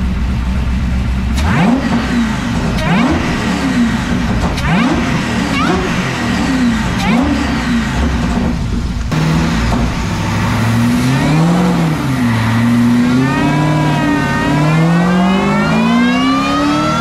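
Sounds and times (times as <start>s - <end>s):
supercharger whine: 0.0s - 17.0s
car engine revving on a dyno: 1.2s - 17.0s.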